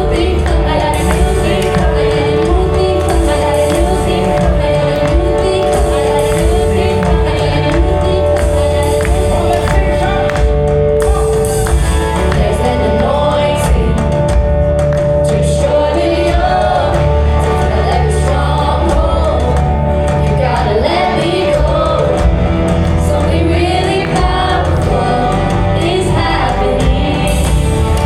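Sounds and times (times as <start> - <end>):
bass line: 0.0 - 28.0
percussion beat: 0.0 - 28.0
voices singing gospel: 0.0 - 28.0.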